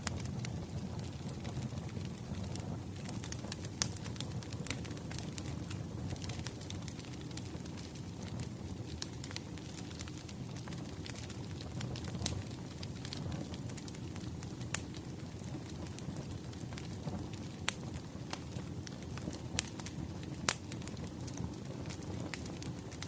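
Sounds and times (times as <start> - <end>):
fire popping: 0.0 - 23.0
wood fire crackling: 0.0 - 23.0.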